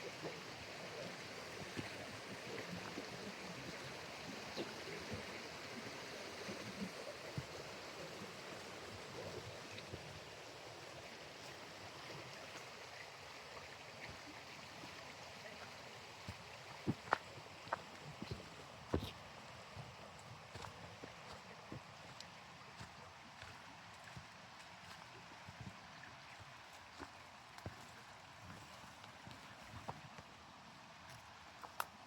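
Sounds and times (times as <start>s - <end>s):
small stream flowing: 0.0s - 32.0s.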